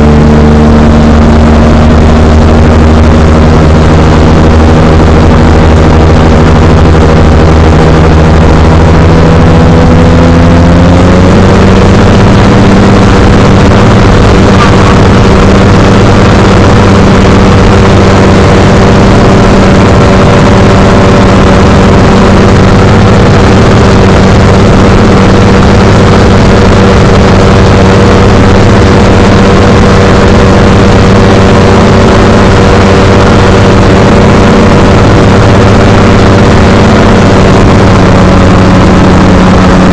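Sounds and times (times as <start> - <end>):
microlight engine and propeller: 0.0 - 39.9.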